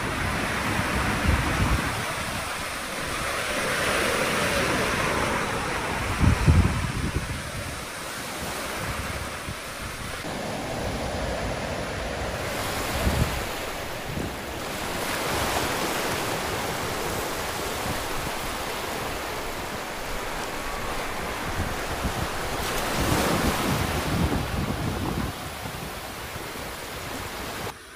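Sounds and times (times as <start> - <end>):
wind buffeting microphone: 0.0 - 27.8
sea surf breaking on shore: 0.0 - 27.9.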